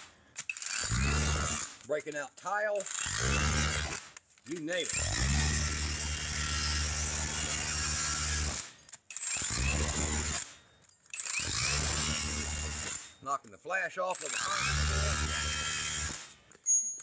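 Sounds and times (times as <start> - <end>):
rotary hammer chipping concrete: 0.0 - 17.0.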